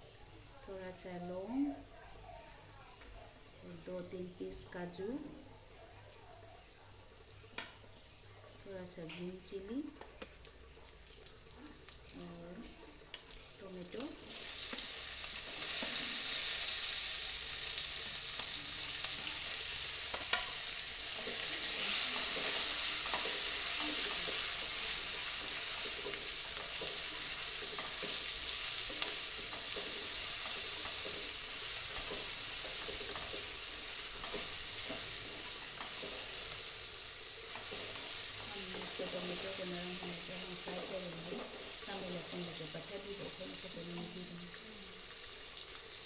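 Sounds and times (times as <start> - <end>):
tomatoes sizzling in hot oil: 0.0 - 46.0.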